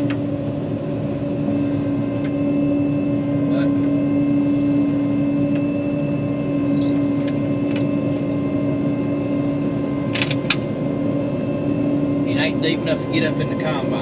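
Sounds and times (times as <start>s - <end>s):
combine harvester droning: 0.0s - 14.0s.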